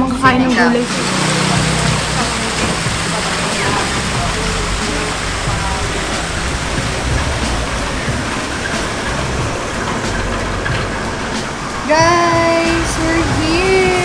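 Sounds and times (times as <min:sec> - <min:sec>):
low rumble: 0:00.0 - 0:14.0
steady rushing noise: 0:00.0 - 0:14.0.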